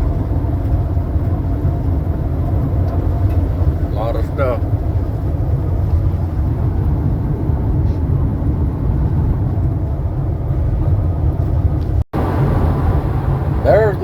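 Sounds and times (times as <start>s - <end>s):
road and engine rumble inside vehicle: 0.0s - 14.0s.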